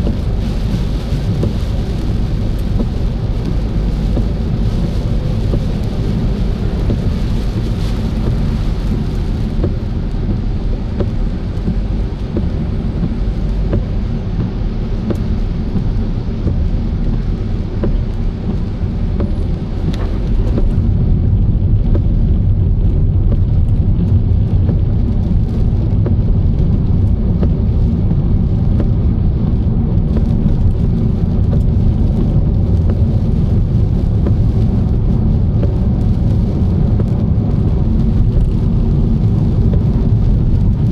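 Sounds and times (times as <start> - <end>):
raindrops ticking: 0.0 - 40.9
tyre noise on wet road: 0.0 - 40.9.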